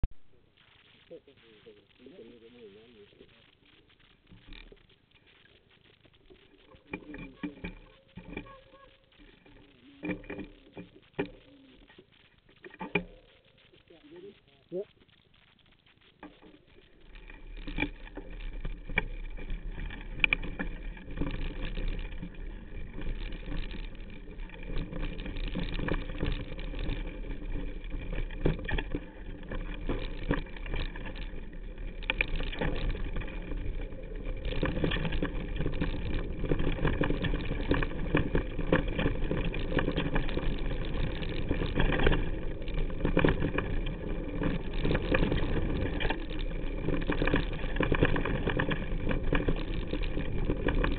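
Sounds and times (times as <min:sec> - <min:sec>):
bike tyres rattling on dirt and stones: 0:01.8 - 0:50.9.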